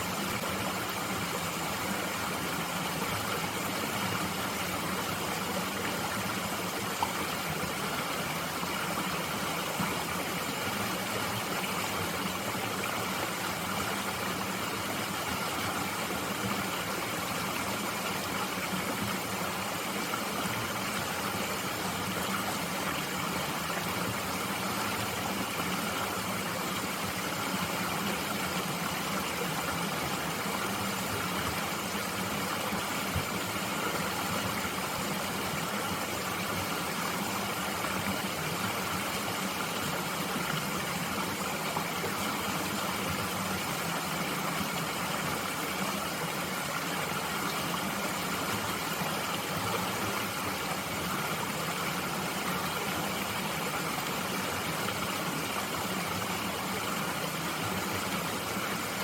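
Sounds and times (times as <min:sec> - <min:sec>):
mountain stream rushing: 0:00.0 - 0:59.0.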